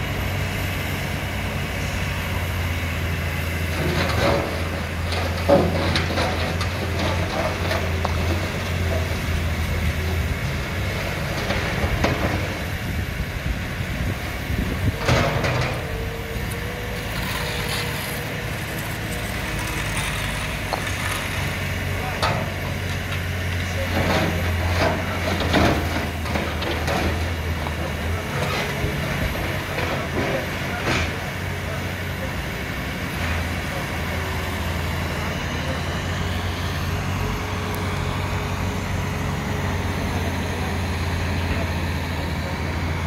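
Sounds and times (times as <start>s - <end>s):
excavator diesel engine: 0.0s - 43.0s.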